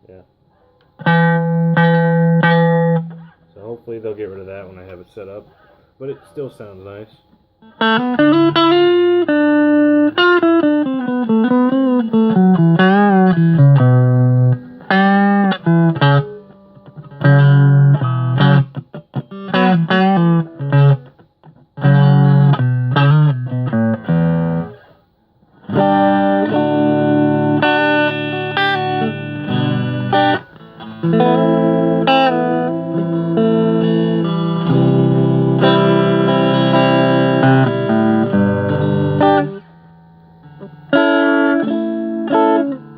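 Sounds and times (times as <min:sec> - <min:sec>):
electric guitar playing: 0:00.8 - 0:05.4, 0:07.6 - 0:42.9.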